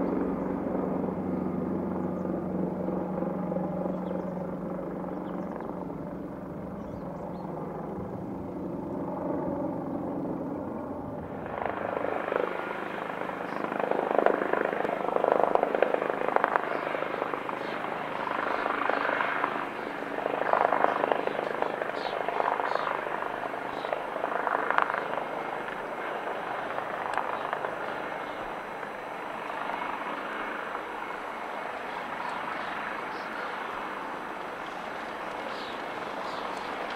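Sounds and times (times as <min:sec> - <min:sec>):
helicopter running: 0:00.0 - 0:36.9.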